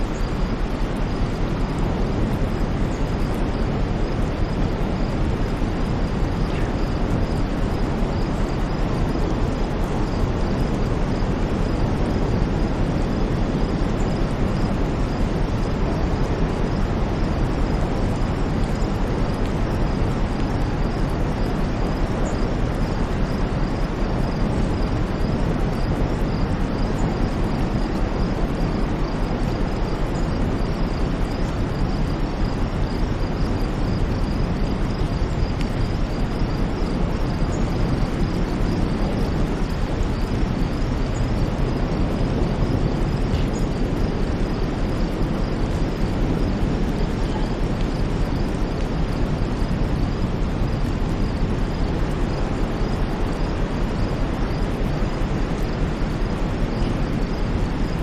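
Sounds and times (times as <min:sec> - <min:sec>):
deep rumbling white noise: 0:00.0 - 0:58.0.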